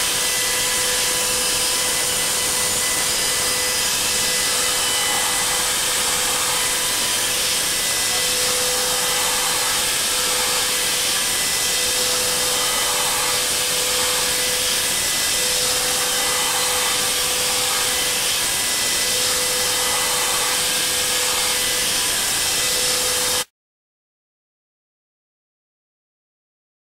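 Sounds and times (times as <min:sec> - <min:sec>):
milling cutter cutting steel: 0:00.0 - 0:23.5.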